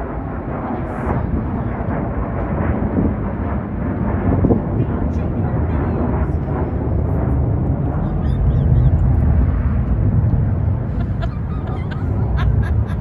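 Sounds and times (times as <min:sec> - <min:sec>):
fighter jets rumbling overhead: 0:00.0 - 0:13.0.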